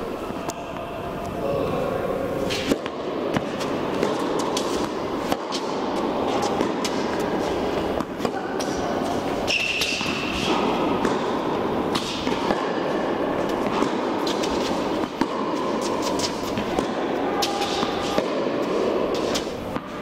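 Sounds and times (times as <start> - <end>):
steady background noise: 0.0 - 20.0
tennis racket strikes: 2.5 - 20.0
tennis ball bounces: 2.6 - 20.0.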